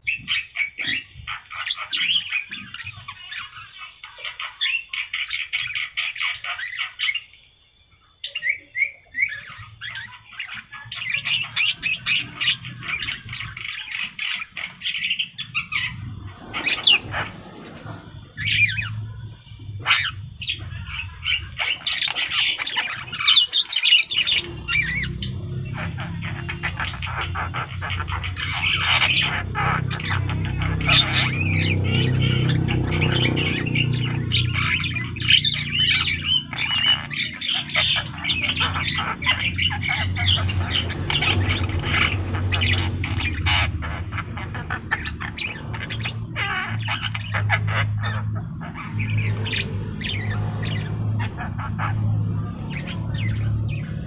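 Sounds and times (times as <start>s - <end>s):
myna squawking and whistling: 8.3s - 54.0s.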